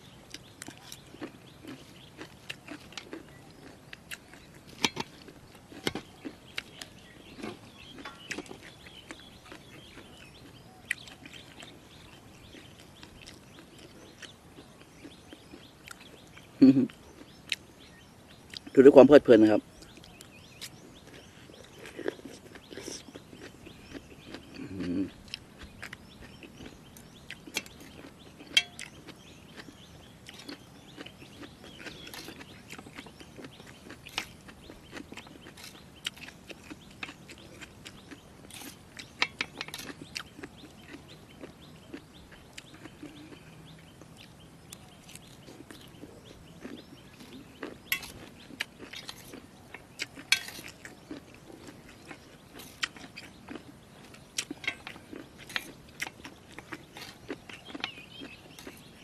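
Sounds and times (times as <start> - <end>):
birds calling: 0.0 - 59.0
person chewing: 0.2 - 18.7, 19.8 - 59.0.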